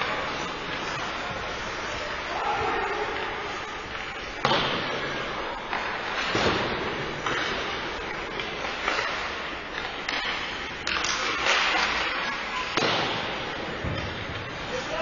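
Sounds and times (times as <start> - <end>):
sticks and puck clattering: 0.0 - 15.0.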